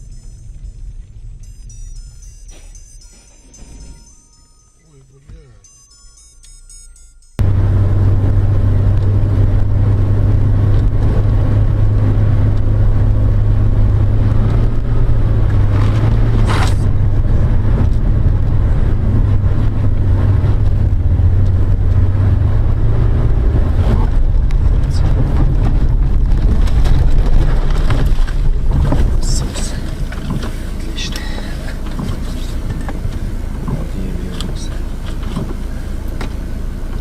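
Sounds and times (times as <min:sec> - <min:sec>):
vehicle road and engine rumble: 0:00.0 - 0:37.0.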